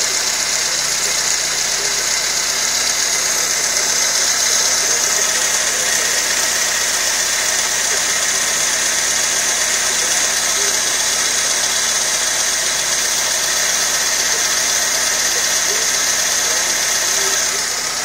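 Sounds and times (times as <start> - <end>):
car engine idling: 0.0 - 18.0
high carburettor hiss: 0.0 - 18.0.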